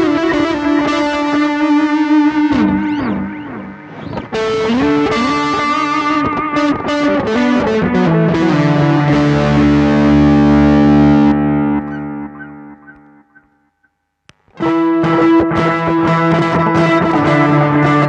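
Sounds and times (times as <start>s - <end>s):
overdriven electric guitar: 0.0s - 18.0s.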